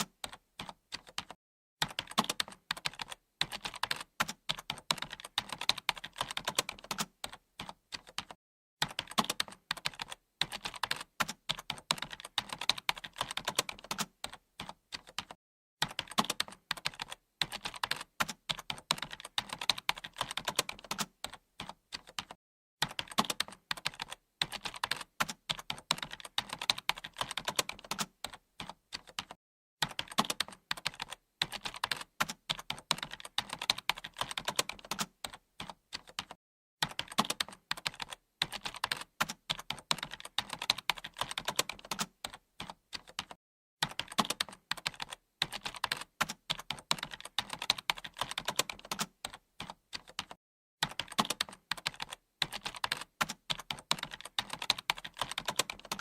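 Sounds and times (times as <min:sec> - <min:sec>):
computer keyboard typing: 0:00.0 - 0:56.0.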